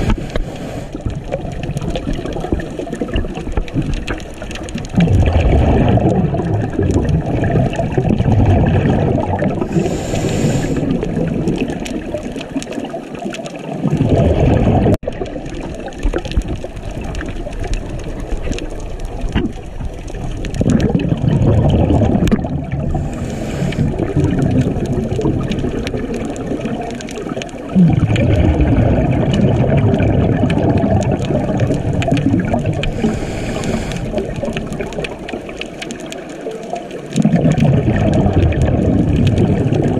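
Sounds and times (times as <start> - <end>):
underwater water surging: 0.0 - 39.9.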